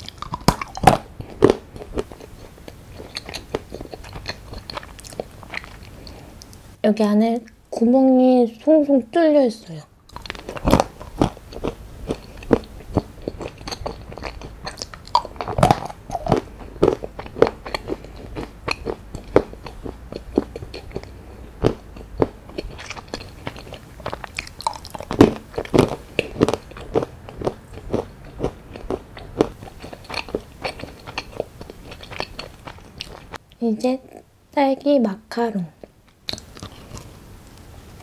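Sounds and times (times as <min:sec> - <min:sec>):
chewing chocolate: 0:00.0 - 0:06.5, 0:10.1 - 0:34.2, 0:35.8 - 0:37.1.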